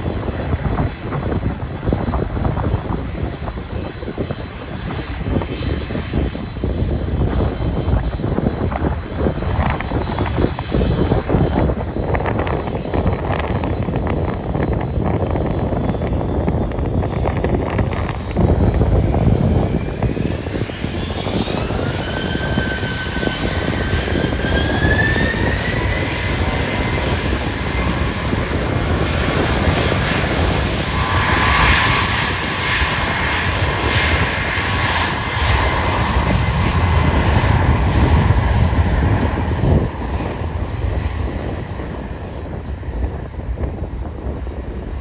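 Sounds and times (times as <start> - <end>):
jet engines whining: 0.0 - 45.0
low rumble: 0.0 - 45.0.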